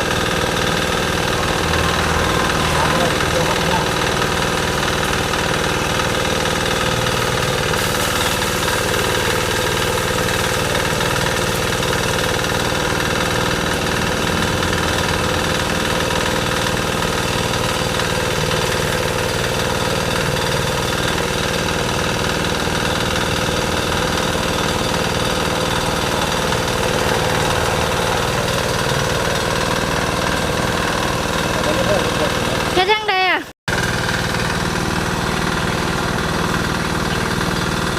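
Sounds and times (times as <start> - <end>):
water pump engine running: 0.0 - 37.9.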